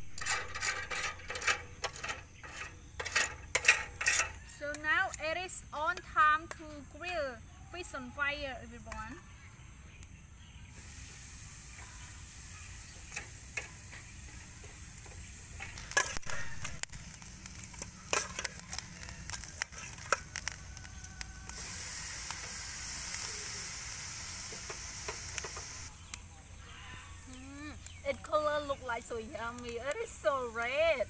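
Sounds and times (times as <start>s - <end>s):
fish sizzling on a grill: 0.0s - 9.1s, 10.6s - 31.0s
coals crackling and popping: 0.0s - 9.2s, 9.9s - 31.0s.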